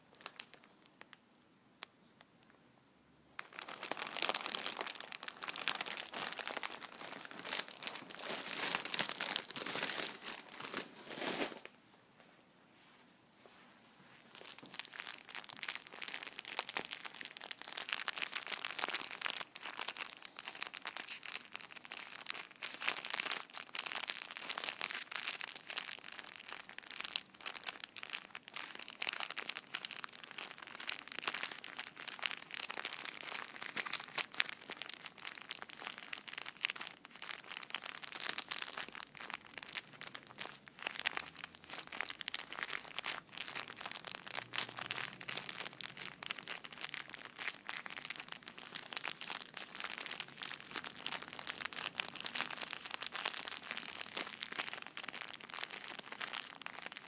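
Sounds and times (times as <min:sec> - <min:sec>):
plastic packaging crinkling: 0:00.0 - 0:01.2, 0:03.4 - 0:11.7, 0:14.3 - 0:57.0.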